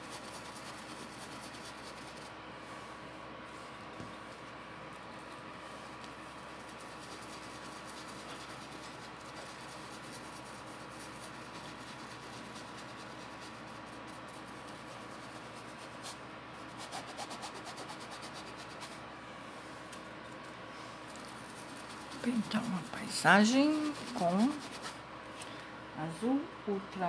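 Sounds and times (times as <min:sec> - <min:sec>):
paintbrush scrubbing on fabric: 0:00.0 - 0:04.5, 0:05.1 - 0:19.7, 0:20.7 - 0:25.0.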